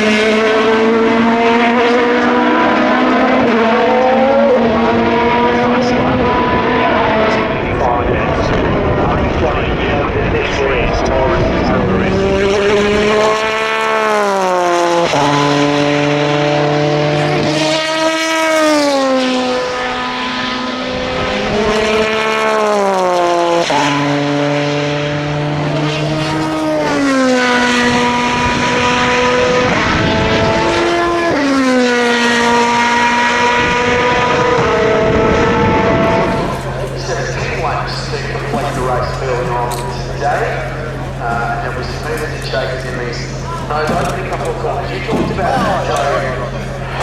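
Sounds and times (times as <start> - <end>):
racing car engines passing: 0.0 - 47.0.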